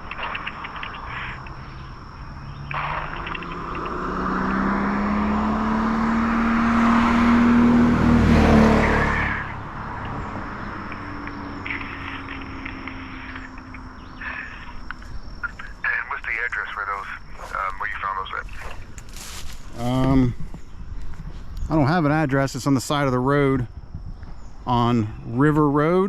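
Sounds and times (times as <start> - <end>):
vehicle passing on road: 0.0 - 22.3.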